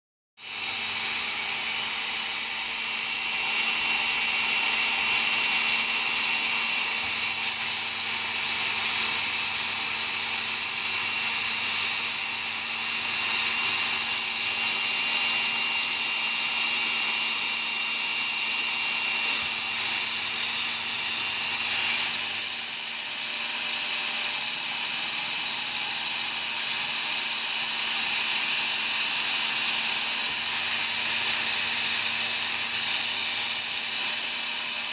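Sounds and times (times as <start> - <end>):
electric drill motor whine: 0.4 - 34.9.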